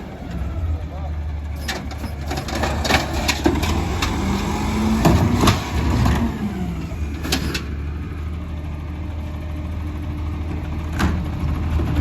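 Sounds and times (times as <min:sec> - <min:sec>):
truck engine humming: 0:00.0 - 0:12.0.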